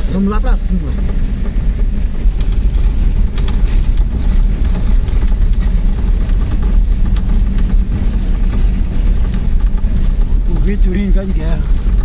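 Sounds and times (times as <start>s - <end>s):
road rumble: 0.0s - 12.0s
vehicle engine: 0.0s - 12.0s.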